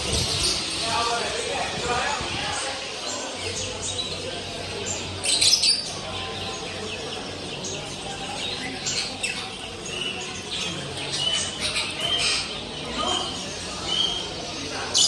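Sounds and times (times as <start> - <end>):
caged birds chirping and squawking: 0.0 - 15.0.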